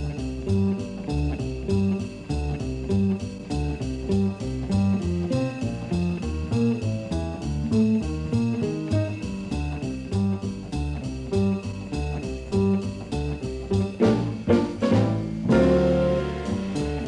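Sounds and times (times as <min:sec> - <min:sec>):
instrumental music with steady beat: 0:00.0 - 0:17.0.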